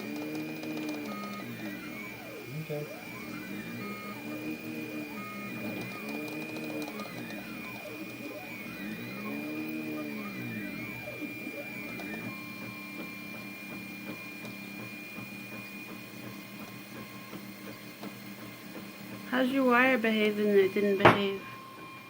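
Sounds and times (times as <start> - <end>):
printer stepper motors whining: 0.0 - 22.0.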